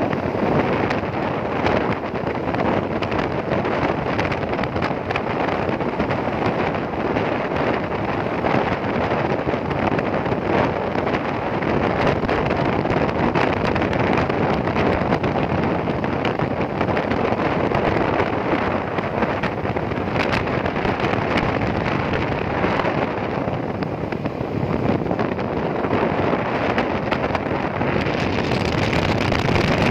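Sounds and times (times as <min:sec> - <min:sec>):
motorcycle running: 0:00.0 - 0:29.9
road noise: 0:00.0 - 0:29.9
wind buffeting microphone: 0:00.0 - 0:29.9.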